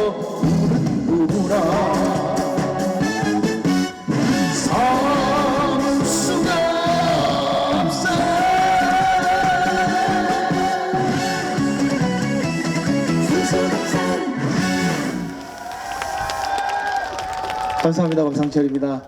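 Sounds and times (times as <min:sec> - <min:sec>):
live band with steady beat: 0:00.0 - 0:15.5.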